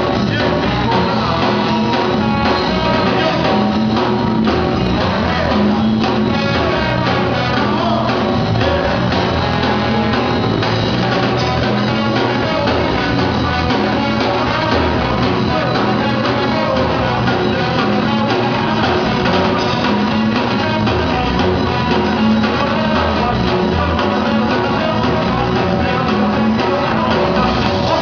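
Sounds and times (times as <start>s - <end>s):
trumpets and saxophone: 0.0s - 3.9s, 4.8s - 28.0s
live band playing loud: 0.0s - 28.0s.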